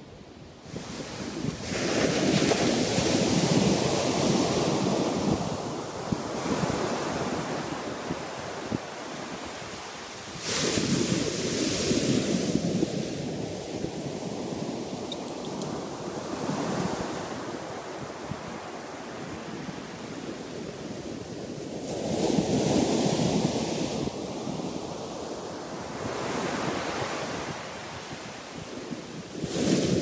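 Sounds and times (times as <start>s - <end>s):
waves crashing on a beach: 0.6s - 30.0s.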